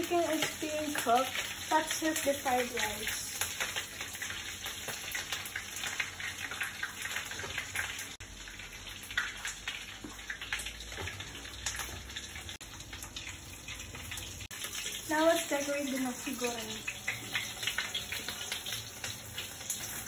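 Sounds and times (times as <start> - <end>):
food sizzling: 0.0 - 20.0.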